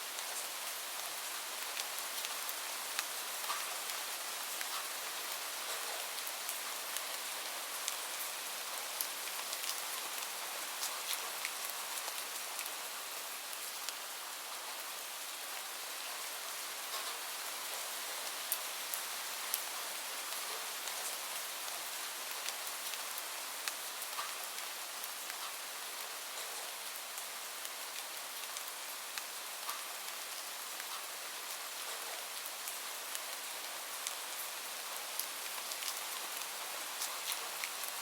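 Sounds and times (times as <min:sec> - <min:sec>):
raindrops ticking on a surface: 0:00.1 - 0:14.6, 0:16.5 - 0:38.0.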